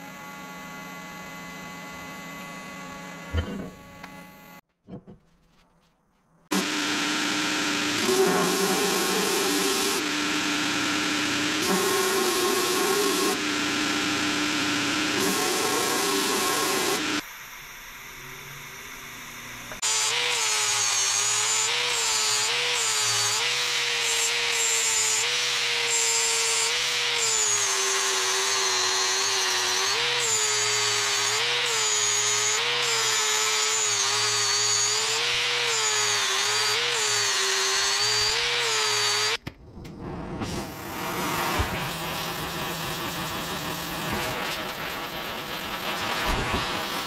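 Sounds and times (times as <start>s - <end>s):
angle grinder on metal: 6.5s - 39.4s, 40.7s - 47.0s.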